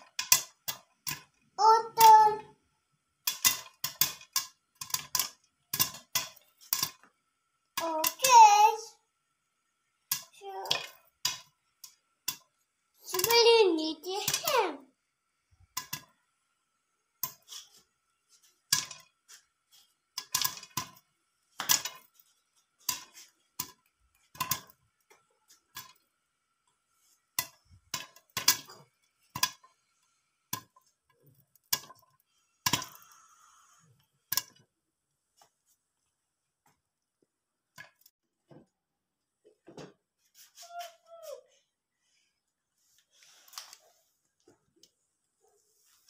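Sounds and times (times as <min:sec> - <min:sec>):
popcorn popping in a pan: 0:00.0 - 0:38.1.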